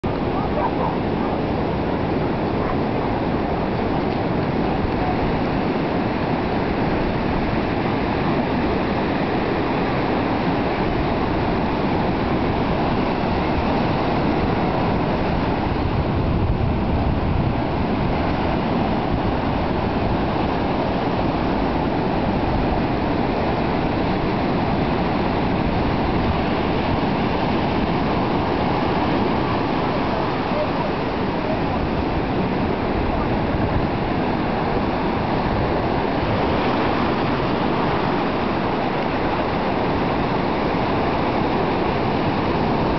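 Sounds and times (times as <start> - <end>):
surf: 0.0 - 42.9
wind: 0.0 - 42.9.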